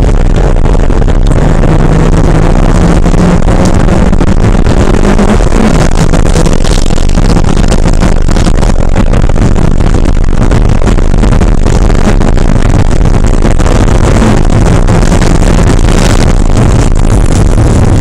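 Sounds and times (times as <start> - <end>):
heavy rushing noise: 0.0 - 18.0
race car engine running hard: 0.0 - 18.0.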